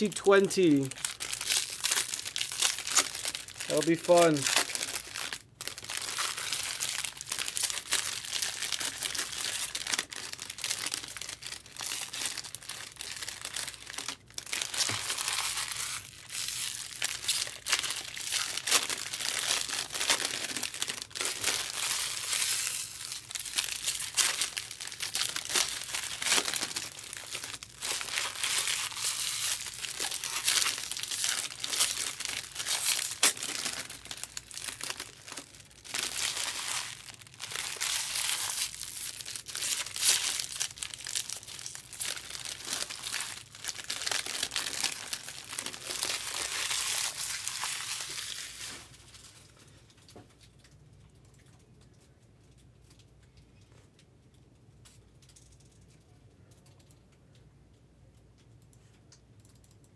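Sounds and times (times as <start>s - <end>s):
foil wrappers crinkling: 0.0s - 50.6s.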